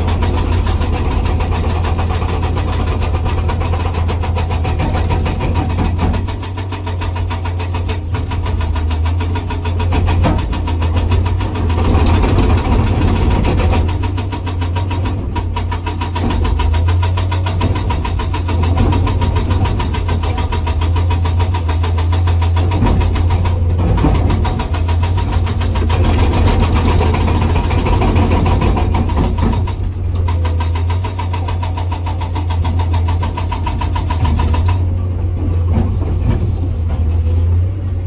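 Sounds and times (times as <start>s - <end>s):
diesel engine running: 0.0s - 38.0s
hydraulic breaker hammering rock: 0.0s - 38.0s.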